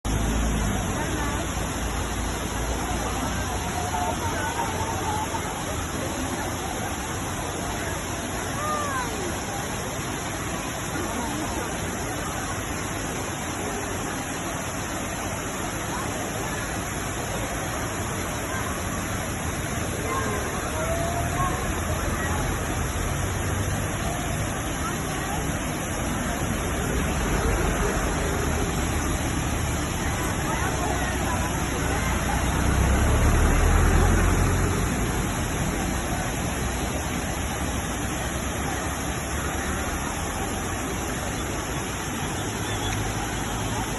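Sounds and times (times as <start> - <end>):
waterfall roaring: 0.0 - 43.9.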